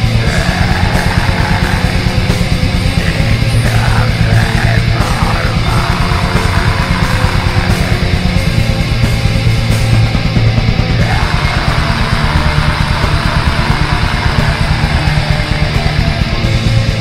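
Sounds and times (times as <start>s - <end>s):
distorted electric guitars: 0.0s - 17.0s
rapid dense drumming: 0.0s - 17.0s.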